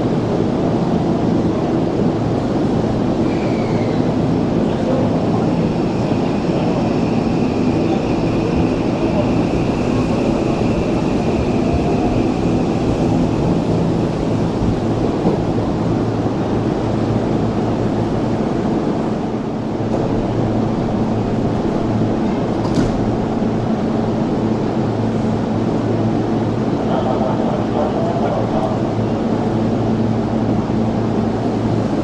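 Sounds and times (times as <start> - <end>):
electric train humming: 0.0 - 32.0.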